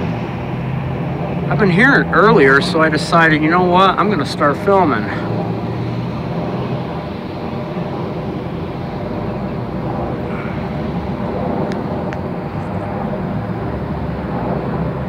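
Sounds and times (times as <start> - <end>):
helicopters droning: 0.0 - 15.0.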